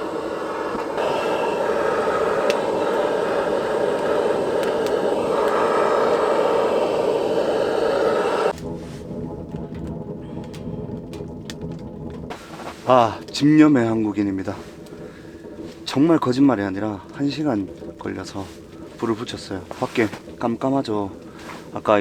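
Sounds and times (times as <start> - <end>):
torch hissing: 0.0 - 11.3, 12.2 - 22.0
small crackles: 0.0 - 22.0.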